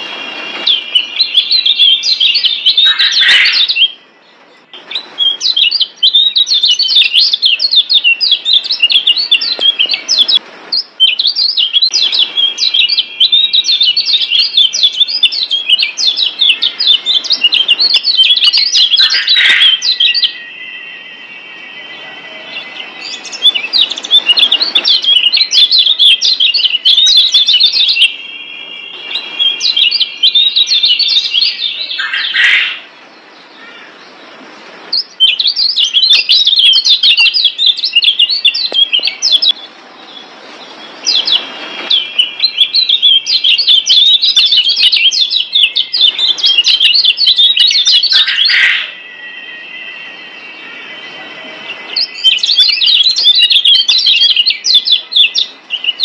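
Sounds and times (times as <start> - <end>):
bird singing chattering song: 0.0 - 56.0.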